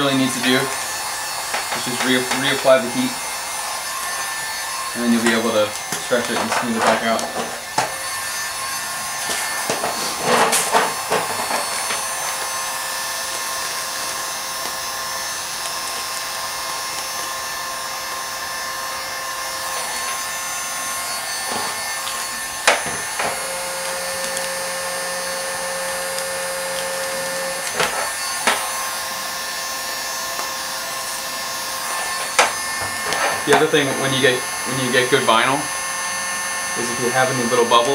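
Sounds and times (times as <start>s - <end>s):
heat gun fan hiss: 0.0s - 37.9s.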